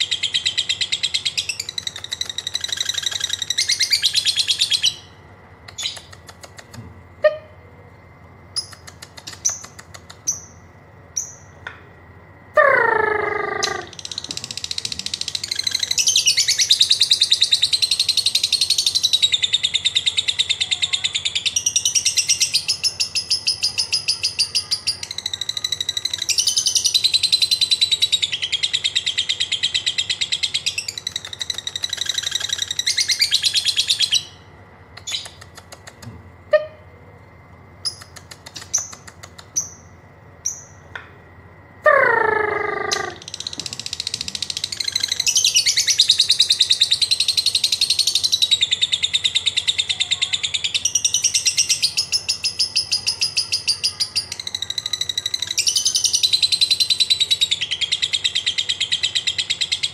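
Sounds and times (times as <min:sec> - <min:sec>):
lovebird chattering trill: 0:00.0 - 0:07.6, 0:08.5 - 0:11.6, 0:12.6 - 0:36.9, 0:37.8 - 0:40.9, 0:41.8 - 0:59.9
sharp ticking chirps: 0:00.0 - 0:59.9.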